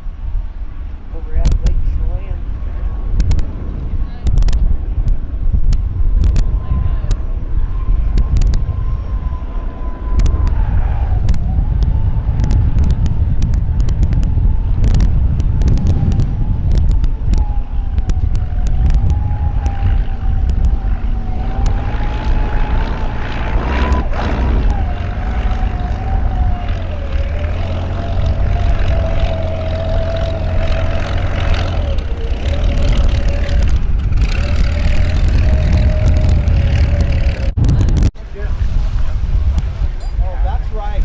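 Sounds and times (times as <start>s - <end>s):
hydroplane engine rumbling and whining: 0.0s - 41.0s.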